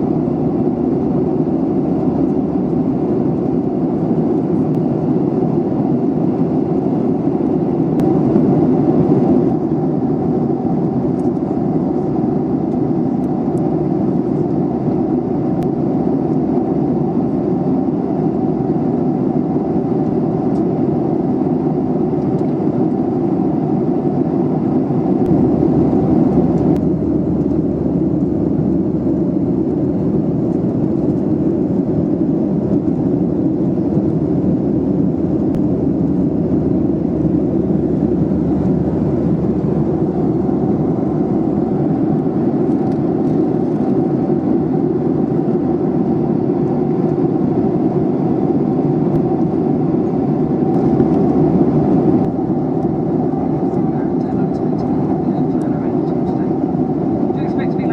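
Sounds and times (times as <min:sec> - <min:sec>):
jet airliner cabin noise: 0:00.0 - 0:57.9.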